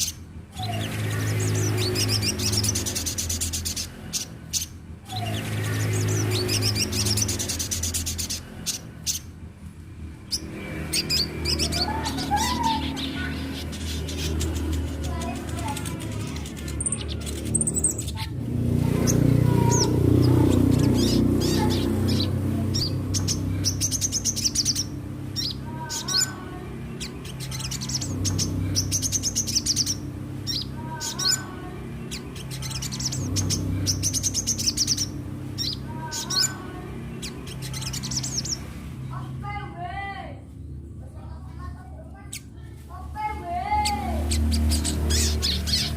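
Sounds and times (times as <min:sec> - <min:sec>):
bird twittering chirps: 0:00.0 - 0:09.4, 0:10.1 - 0:39.2, 0:43.8 - 0:45.9
rapid high bird trill: 0:00.0 - 0:09.4, 0:10.2 - 0:38.7, 0:43.8 - 0:45.9.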